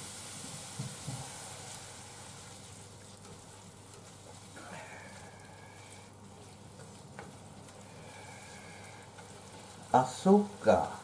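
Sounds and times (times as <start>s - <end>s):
food sizzling in a frying pan: 0.0s - 11.0s
chopsticks stirring food: 1.7s - 11.0s.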